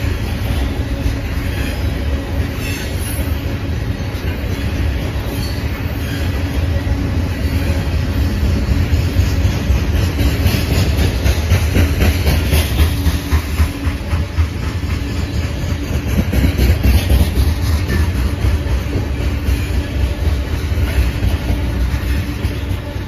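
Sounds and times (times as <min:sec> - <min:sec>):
train wheels rumbling on rail: 0:00.0 - 0:23.0
wheels clicking over rail joints: 0:04.0 - 0:23.0.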